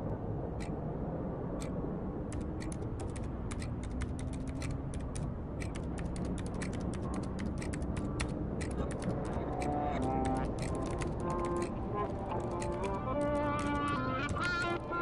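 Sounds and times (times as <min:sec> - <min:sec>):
low steady hum: 0:00.0 - 0:15.0
typing on laptop keyboard: 0:02.3 - 0:14.8
clock ticking: 0:02.4 - 0:14.8.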